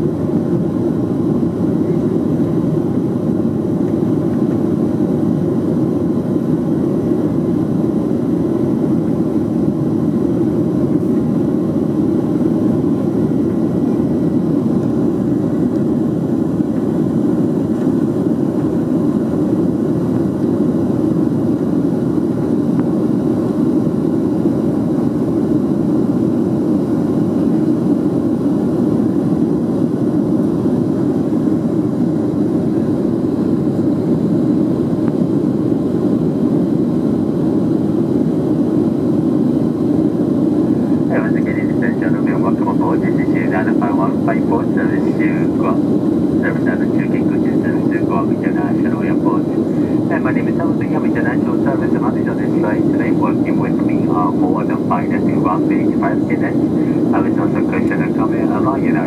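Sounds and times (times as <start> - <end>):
airflow over fuselage: 0.0 - 59.0
jet engine cabin drone: 0.0 - 59.0.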